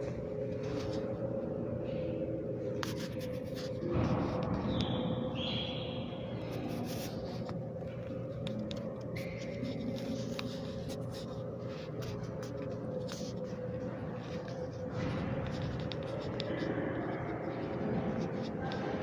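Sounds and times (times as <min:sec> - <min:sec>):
constant pitched drone: 0:00.0 - 0:19.0
steady low hum: 0:00.0 - 0:19.0.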